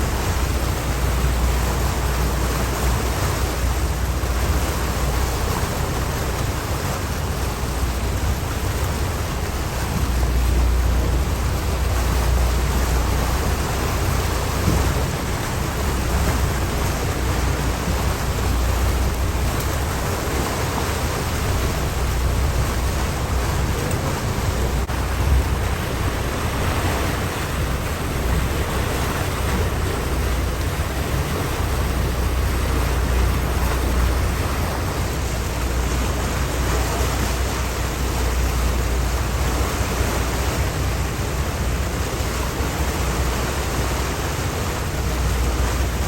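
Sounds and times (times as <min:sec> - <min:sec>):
boat and water rumble: 0:00.0 - 0:46.0
wind on microphone: 0:00.0 - 0:46.0.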